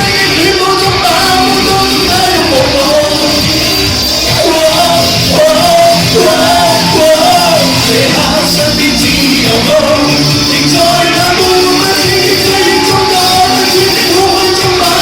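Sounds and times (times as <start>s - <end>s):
person singing: 0.0s - 15.0s
rock-pop band playing: 0.0s - 15.0s.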